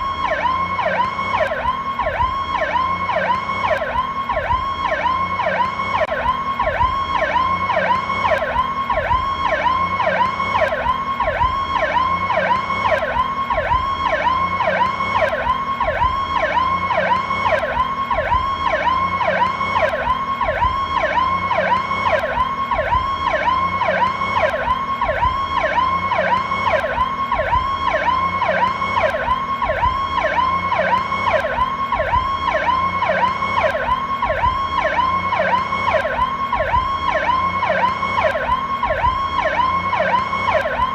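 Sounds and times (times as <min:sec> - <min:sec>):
ambulance siren: 0:00.0 - 0:40.9.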